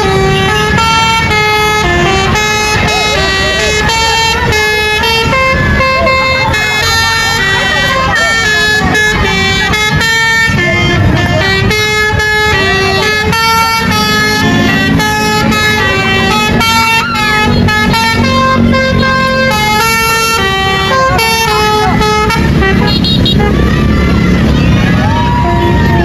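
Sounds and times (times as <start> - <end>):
multi-tone air horn tune: 0.0 - 25.7
bus engine rumble: 0.0 - 26.0
voices: 0.0 - 26.0.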